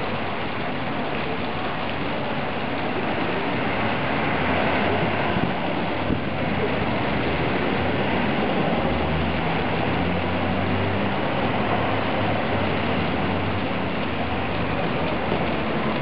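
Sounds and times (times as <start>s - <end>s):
fountain jets splashing on grates: 0.0s - 16.0s
low vehicle engine rumble: 0.0s - 16.0s.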